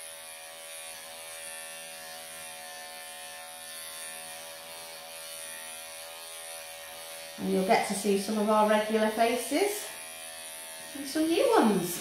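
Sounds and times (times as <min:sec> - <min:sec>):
electric pet clippers buzzing: 0:00.0 - 0:12.0.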